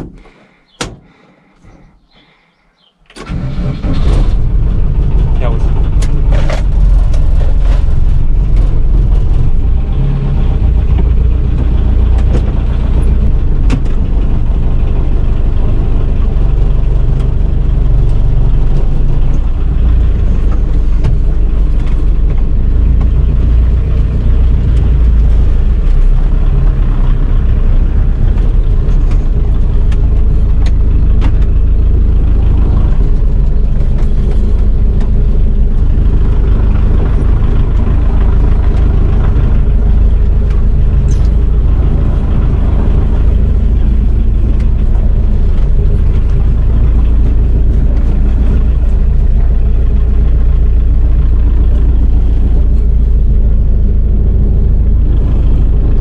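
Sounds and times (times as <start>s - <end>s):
van engine idling: 0.0s - 56.0s.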